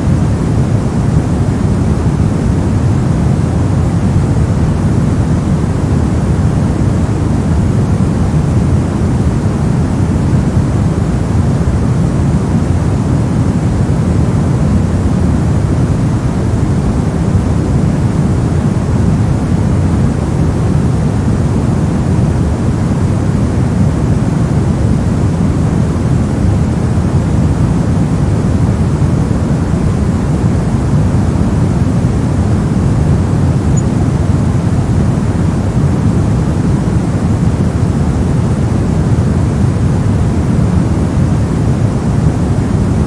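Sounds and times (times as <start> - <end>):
deep rumbly white noise: 0.0 - 43.0.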